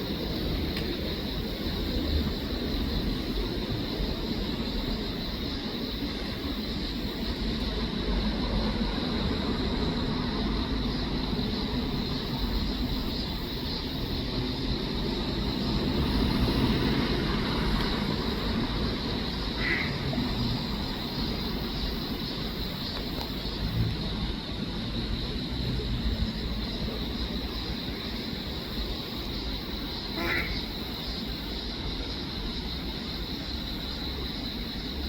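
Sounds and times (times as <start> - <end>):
distant road traffic rumble: 0.0 - 35.0
thin steady hiss: 0.0 - 35.0.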